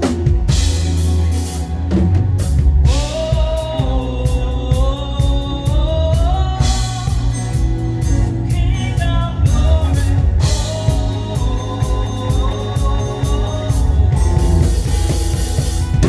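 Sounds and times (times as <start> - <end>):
live band music: 0.0 - 16.0
person singing melody: 2.8 - 16.0.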